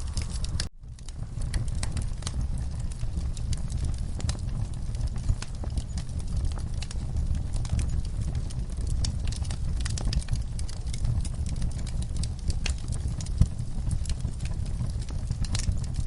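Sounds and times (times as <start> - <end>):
burning logs crackling: 0.0 - 16.0
low rumble of flames: 0.0 - 16.0.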